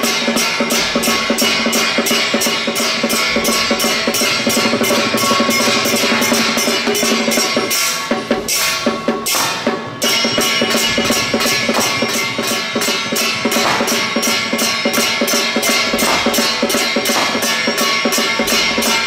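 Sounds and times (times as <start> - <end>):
drums and cymbals beating: 0.0 - 19.0
sustained pitched instruments: 0.0 - 19.0.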